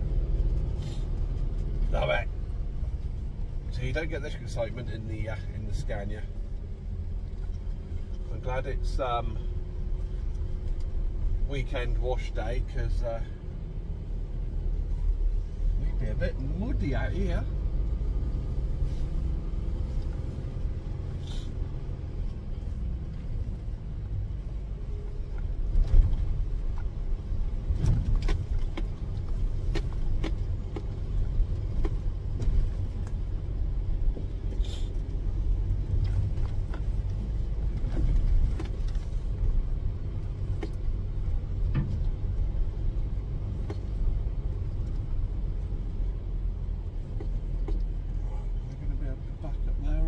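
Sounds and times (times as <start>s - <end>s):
rattles and knocks over rough road: 0.0s - 50.0s
truck engine rumble: 0.0s - 50.0s.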